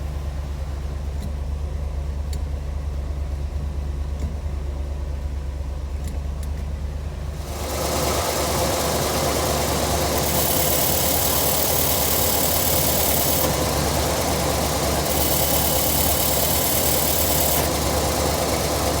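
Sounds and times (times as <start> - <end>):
car engine idling with rattle: 0.1 - 19.0.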